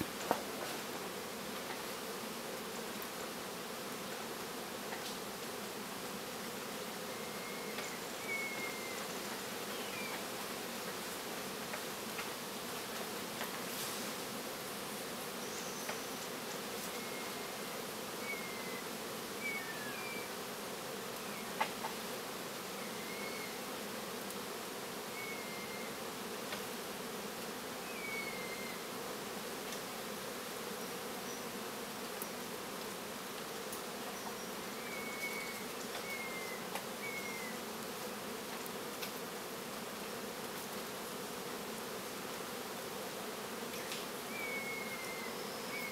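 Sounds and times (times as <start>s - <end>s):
flying insects buzzing: 0.0s - 45.9s.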